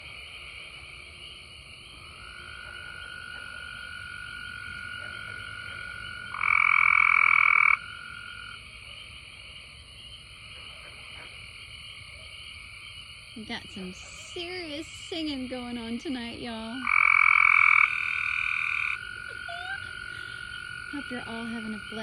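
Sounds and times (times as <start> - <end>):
chorus of frogs trilling: 0.0 - 22.0
frog calling nearby: 0.0 - 22.0.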